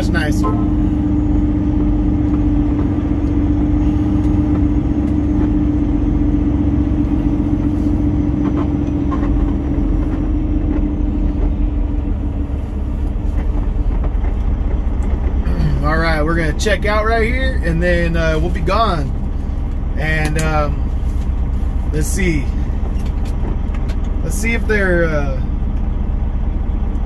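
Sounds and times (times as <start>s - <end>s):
truck diesel engine rumbling: 0.0s - 27.0s.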